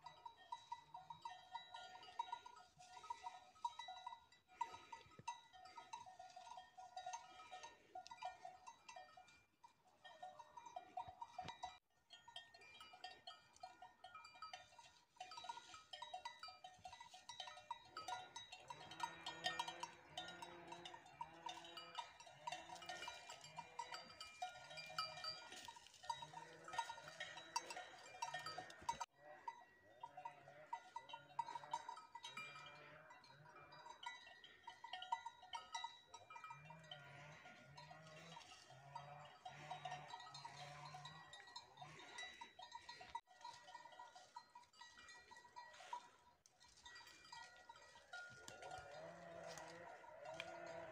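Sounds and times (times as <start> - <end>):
cowbells clanking: 0.0 - 50.9.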